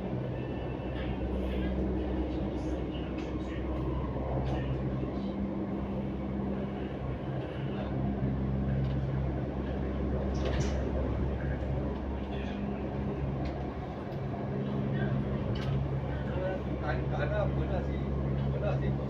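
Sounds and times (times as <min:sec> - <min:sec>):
faint passenger voices: 0:00.0 - 0:19.0
train running rumble: 0:00.0 - 0:19.0.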